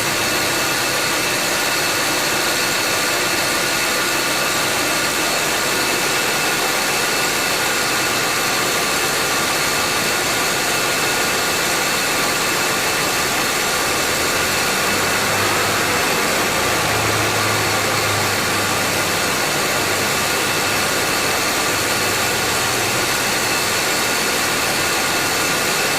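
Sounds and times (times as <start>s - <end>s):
car air conditioning compressor whirring: 0.0s - 25.9s.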